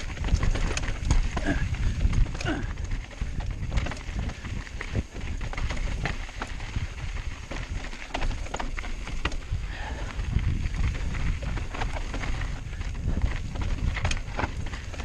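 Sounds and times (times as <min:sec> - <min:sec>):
bike rattling over gravel: 0:00.0 - 0:15.0
wind buffeting microphone: 0:00.0 - 0:15.0.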